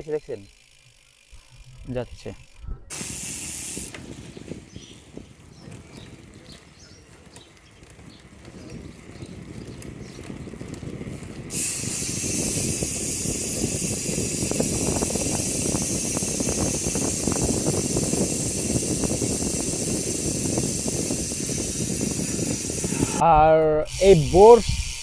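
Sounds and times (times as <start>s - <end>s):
wind and road noise: 1.5s - 25.0s.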